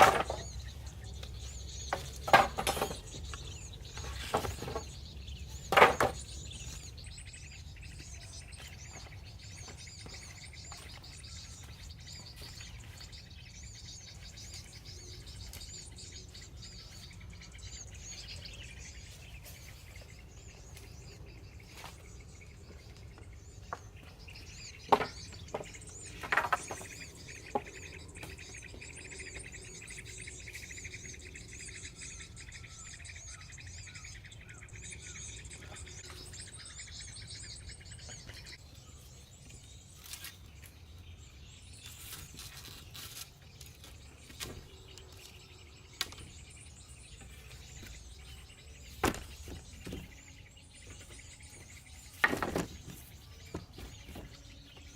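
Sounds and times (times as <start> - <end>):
birds chirping and calling: 0.0 - 54.9.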